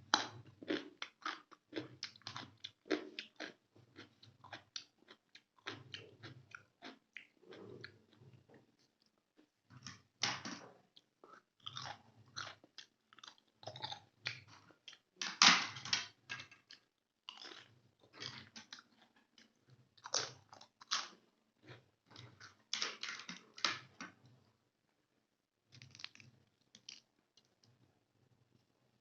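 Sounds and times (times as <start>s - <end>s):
wet chewing and smacking: 0.1s - 15.4s, 16.4s - 23.6s, 25.8s - 27.8s.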